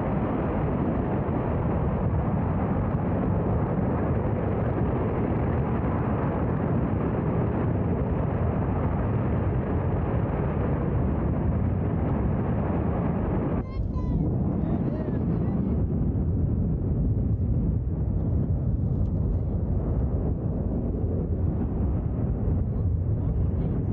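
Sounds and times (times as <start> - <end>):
rocket engine roar: 0.0 - 23.9.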